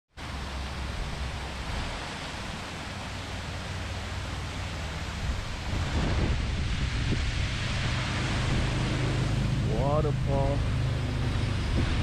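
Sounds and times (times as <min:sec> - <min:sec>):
small waterfall rushing into pond: 0:00.1 - 0:12.0
low uneven rumble: 0:00.2 - 0:12.0.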